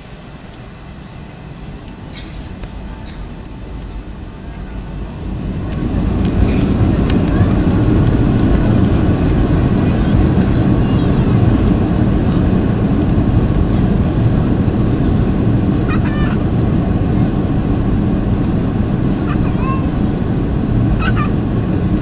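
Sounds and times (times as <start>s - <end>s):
jet engine rumble in cabin: 0.0s - 22.0s.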